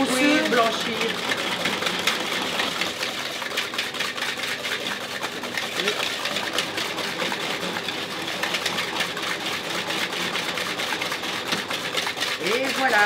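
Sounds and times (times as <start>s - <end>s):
hand whisk beating in plastic bowl: 0.0s - 13.0s
hand-cranked whisk clicking whir: 0.0s - 13.0s.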